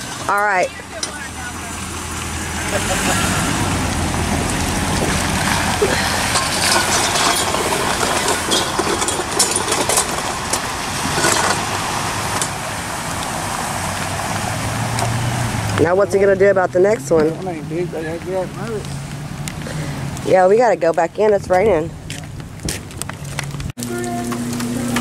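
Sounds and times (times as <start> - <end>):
tyres splashing through water: 0.0 - 25.0.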